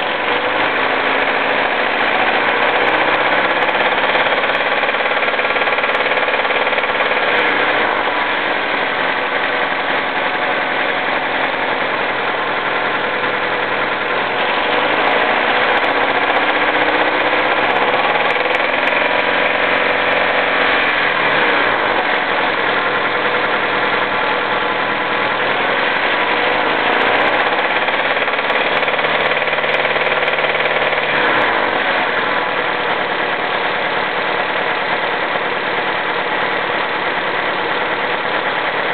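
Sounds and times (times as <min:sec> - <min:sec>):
car engine revving with knock: 0:00.0 - 0:38.9.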